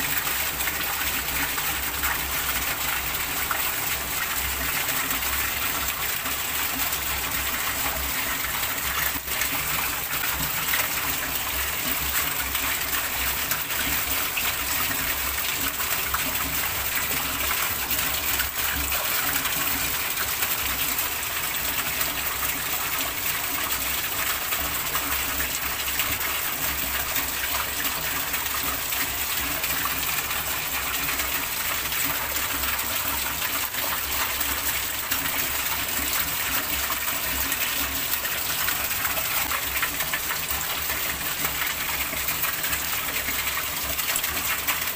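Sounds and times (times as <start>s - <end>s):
heavy rain splashing on water: 0.0s - 44.9s.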